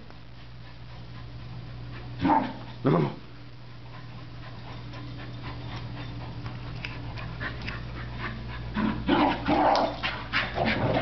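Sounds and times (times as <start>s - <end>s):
dogs panting: 0.3s - 2.8s, 3.6s - 11.0s.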